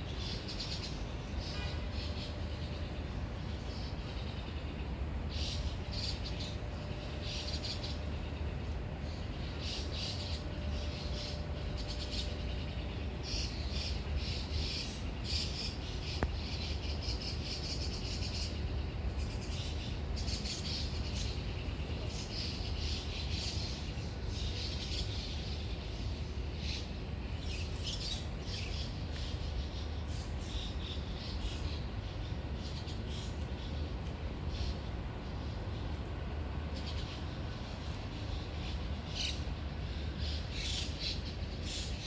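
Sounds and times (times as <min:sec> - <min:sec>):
small birds chirping: 0:00.0 - 0:42.0
steady low rumble: 0:00.0 - 0:42.0.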